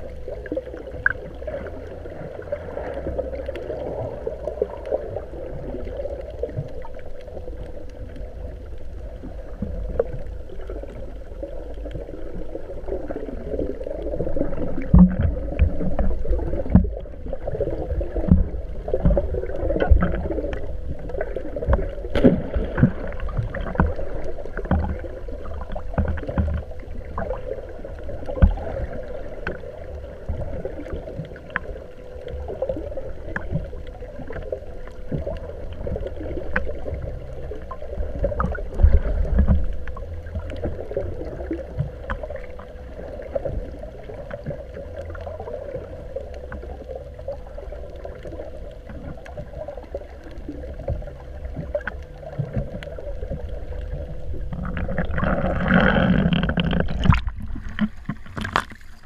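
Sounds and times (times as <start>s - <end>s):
faint steady hum: 0.0s - 59.0s
low rumble: 0.0s - 59.0s
water sloshing against boat: 0.0s - 59.0s.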